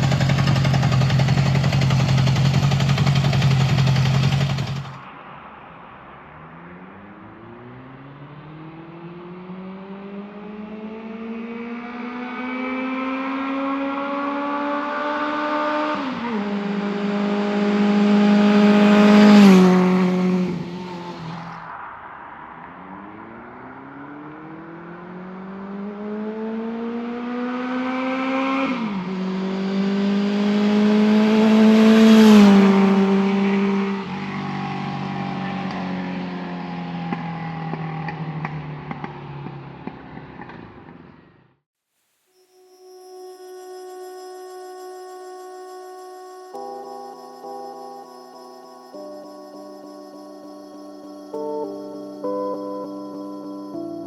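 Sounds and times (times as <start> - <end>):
motorcycle engine accelerating: 0.0 - 5.1, 6.5 - 21.8, 22.8 - 41.5, 42.8 - 54.0.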